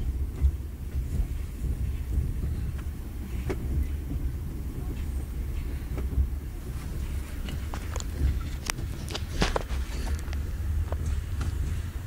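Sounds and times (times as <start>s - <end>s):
train rumble inside carriage: 0.0s - 12.0s
sharp clicks and knocks: 0.2s - 12.0s.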